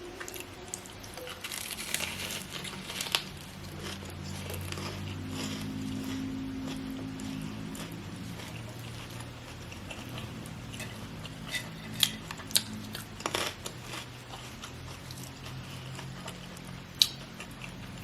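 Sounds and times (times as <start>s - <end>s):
faint low hum: 0.0s - 18.0s
chewing crunchy food: 0.1s - 18.0s.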